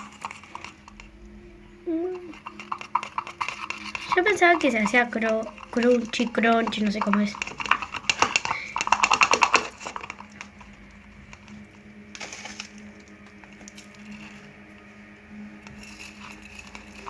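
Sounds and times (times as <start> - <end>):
slime crackling: 0.0 - 17.0
steady low hum: 0.0 - 17.0.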